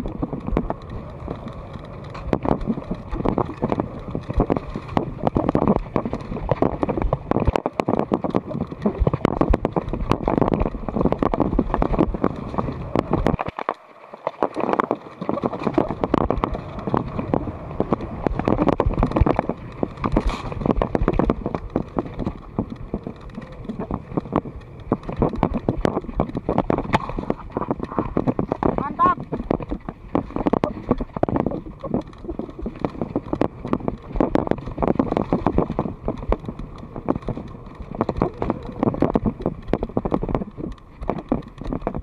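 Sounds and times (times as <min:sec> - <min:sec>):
mountain bike rattling: 0:00.0 - 0:42.0.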